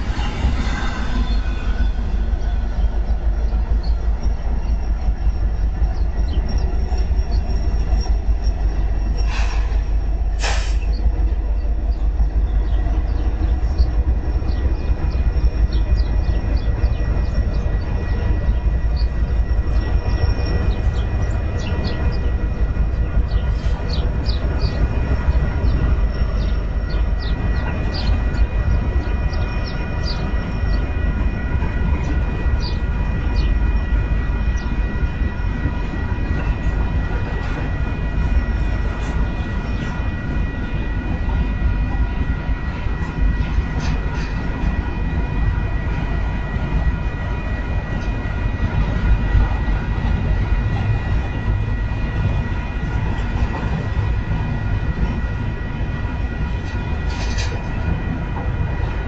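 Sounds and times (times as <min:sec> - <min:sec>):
train squeaks and clicks: 0:00.0 - 0:59.0
train wheels rumbling on rail: 0:00.0 - 0:59.0.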